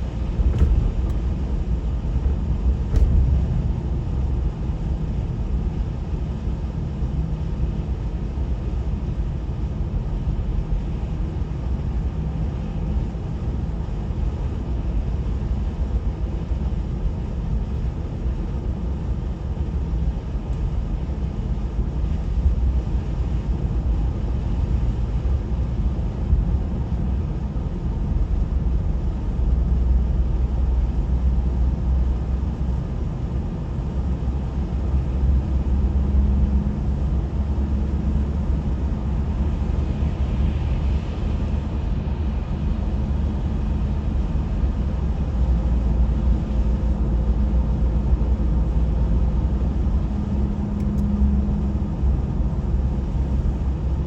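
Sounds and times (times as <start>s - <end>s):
vehicle rumbling on road: 0.0s - 54.0s.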